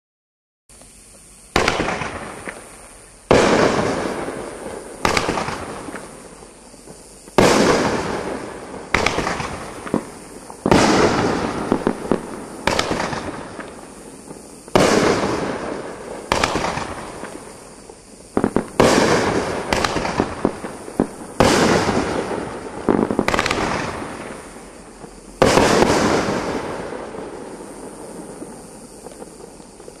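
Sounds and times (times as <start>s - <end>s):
fireworks bangs: 0.7s - 30.0s.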